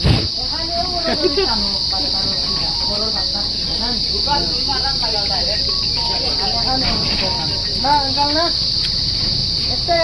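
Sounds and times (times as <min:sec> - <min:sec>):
crickets chirring: 0:00.0 - 0:10.0
murmur of many people talking: 0:00.0 - 0:10.0.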